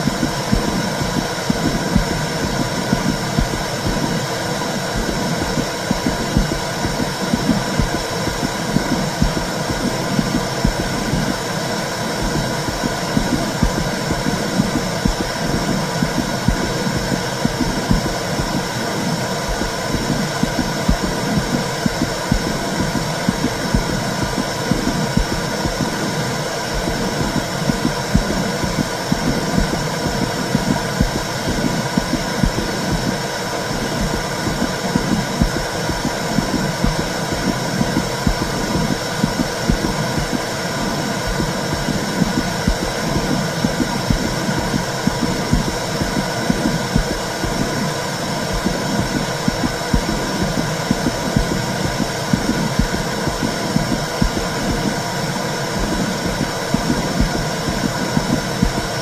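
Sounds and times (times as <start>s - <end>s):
heartbeat pulse: 0.0s - 59.0s.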